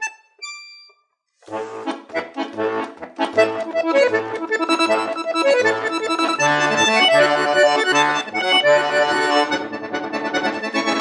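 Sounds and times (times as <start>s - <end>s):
accordion playing: 0.0s - 0.6s, 1.4s - 11.0s.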